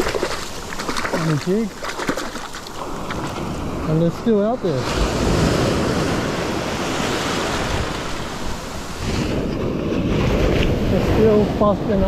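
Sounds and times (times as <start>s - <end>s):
small waves breaking: 0.0s - 12.0s
surf washing up sand: 0.0s - 12.0s.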